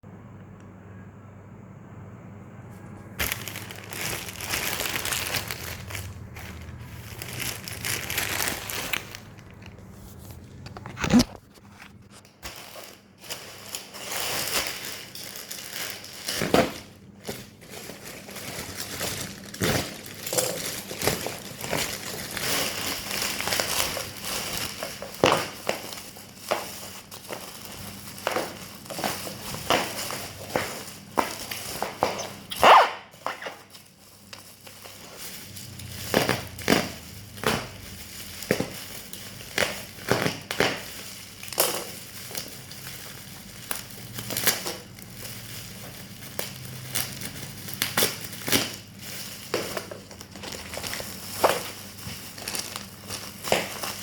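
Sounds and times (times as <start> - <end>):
packaging crinkling and rustling: 2.8 - 54.0.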